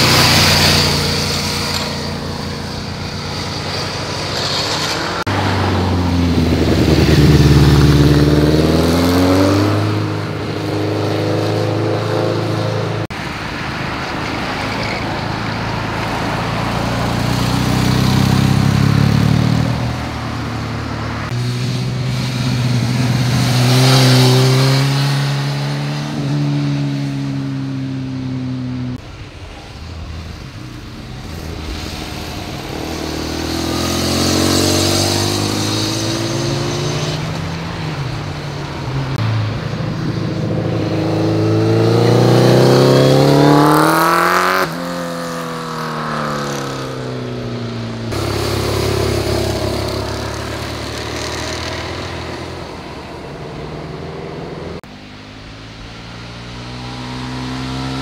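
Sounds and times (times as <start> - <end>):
motorcycles revving past: 0.0 - 13.1, 15.4 - 29.0, 30.4 - 58.0.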